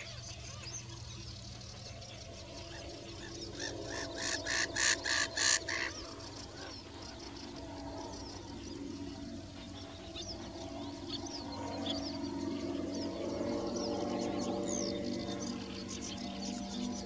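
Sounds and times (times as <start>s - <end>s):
harsh repeated bird calls: 0.0s - 17.0s.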